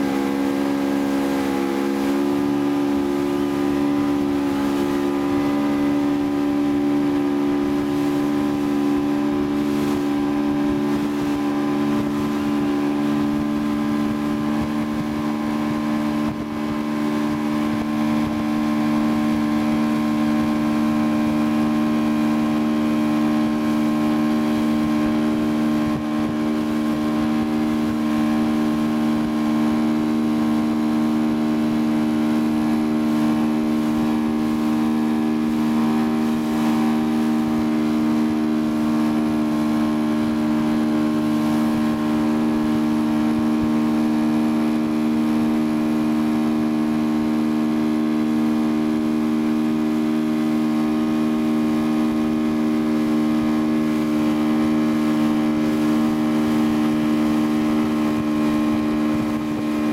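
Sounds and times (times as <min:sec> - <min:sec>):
motorboat engine drone: 0:00.0 - 0:59.9
rushing water: 0:00.0 - 0:59.9
wind: 0:00.0 - 0:59.9.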